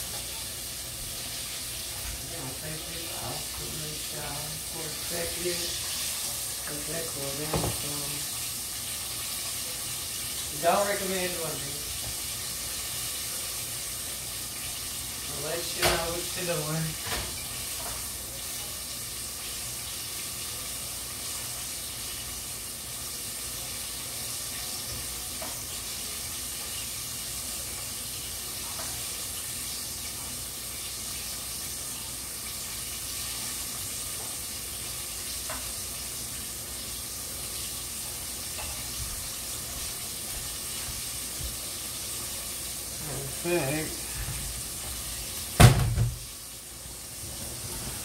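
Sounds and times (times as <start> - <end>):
food sizzling in a pan: 0.0 - 48.0.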